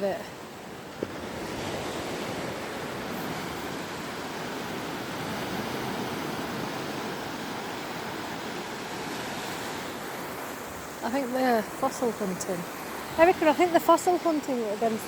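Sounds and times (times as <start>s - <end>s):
sea surf washing onto beach: 0.0s - 15.0s.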